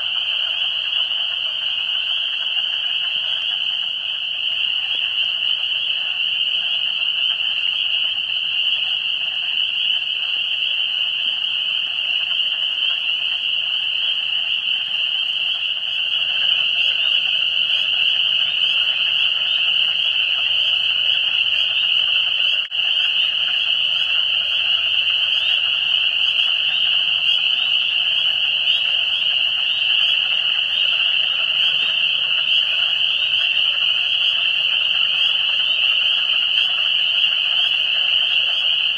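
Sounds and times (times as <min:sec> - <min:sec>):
frog calls: 0:00.0 - 0:38.9
spring peepers chorus: 0:00.0 - 0:38.9.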